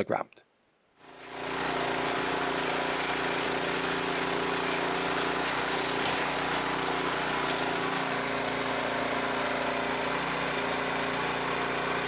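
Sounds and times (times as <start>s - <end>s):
mini excavator engine running: 1.1s - 12.0s.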